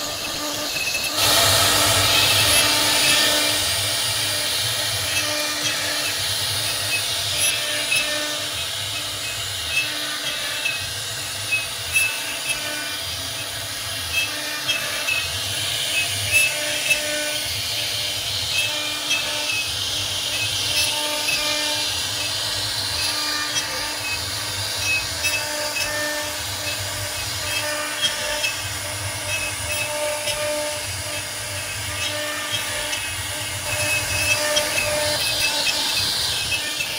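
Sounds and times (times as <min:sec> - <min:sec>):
cnc router carving wood: 0:00.0 - 0:36.9.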